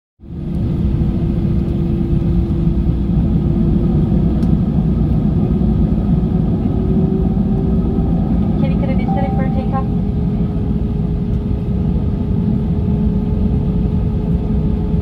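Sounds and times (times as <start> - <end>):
aircraft engines rumbling: 0.2 - 15.0
steady cabin hum: 0.3 - 12.7.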